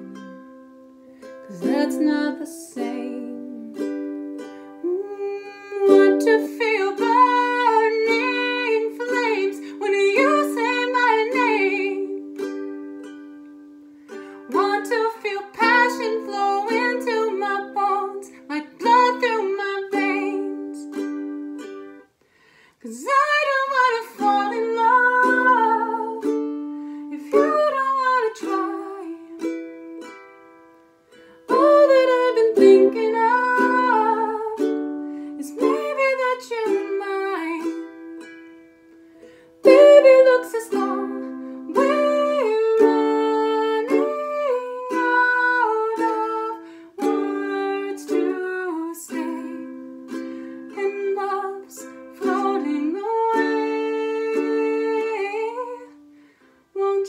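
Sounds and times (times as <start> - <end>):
ukulele strumming: 0.0 - 57.0
woman singing: 1.4 - 13.6, 14.4 - 21.7, 22.8 - 30.2, 31.4 - 38.5, 39.6 - 56.1, 56.7 - 57.0.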